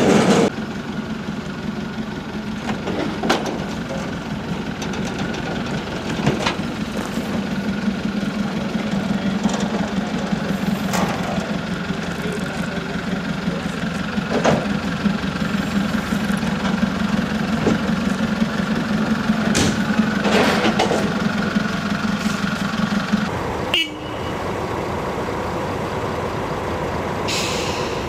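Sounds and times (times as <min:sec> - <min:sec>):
rail vehicle engine drone: 0:00.0 - 0:28.0
track maintenance machine running: 0:00.0 - 0:28.0.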